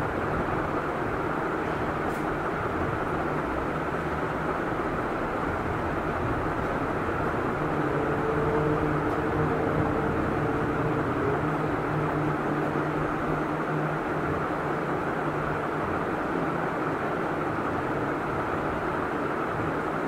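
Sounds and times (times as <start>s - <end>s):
faint low hum: 0.0s - 20.0s
rushing background noise: 0.0s - 20.0s.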